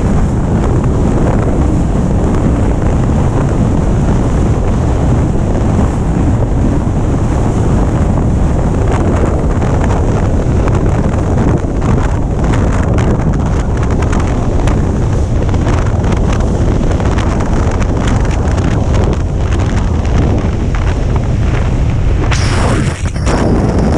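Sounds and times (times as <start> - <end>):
boat and water churning: 0.0 - 23.9
wind buffeting microphone: 0.0 - 23.9.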